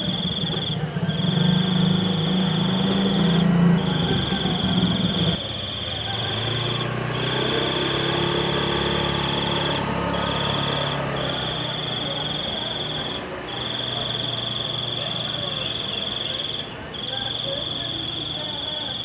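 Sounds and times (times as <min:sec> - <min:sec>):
insect trilling: 0:00.0 - 0:19.0.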